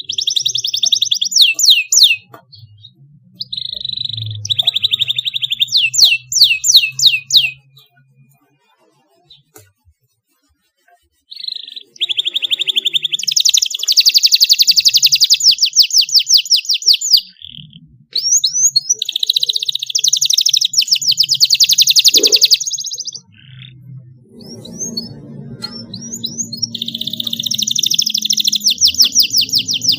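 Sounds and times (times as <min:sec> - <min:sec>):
canary trilling: 0:00.0 - 0:09.6, 0:11.0 - 0:29.9
canary chirps: 0:00.0 - 0:29.9.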